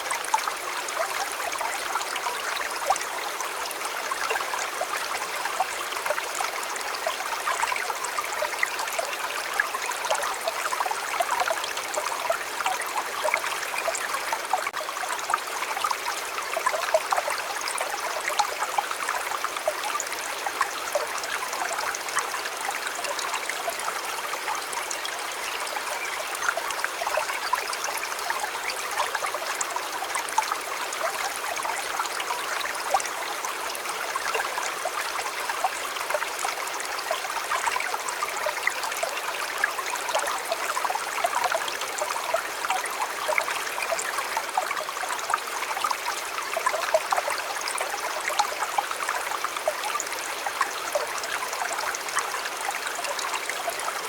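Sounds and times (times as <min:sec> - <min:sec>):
shallow river flowing over stones: 0:00.0 - 0:54.0.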